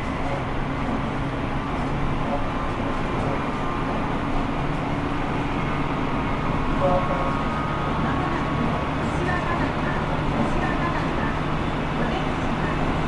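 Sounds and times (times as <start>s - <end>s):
train rail running noise: 0.0s - 13.0s.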